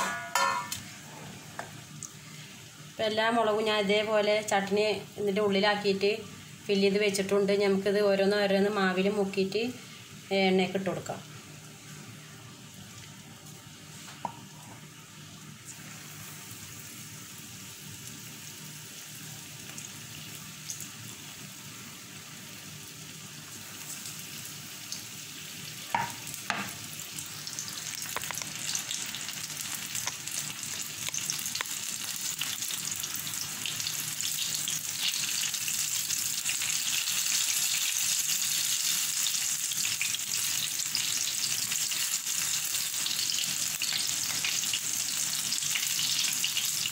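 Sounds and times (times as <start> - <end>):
food deep-frying in oil: 0.0 - 0.9, 1.7 - 46.9.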